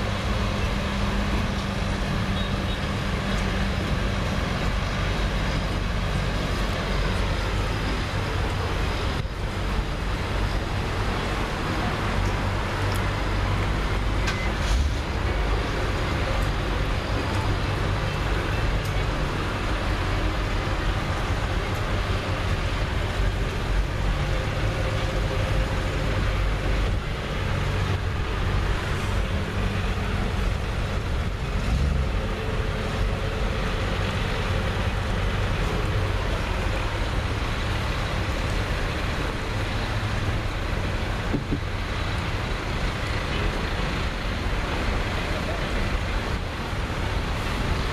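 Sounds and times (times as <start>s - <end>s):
tractor engines running: 0.0s - 47.9s.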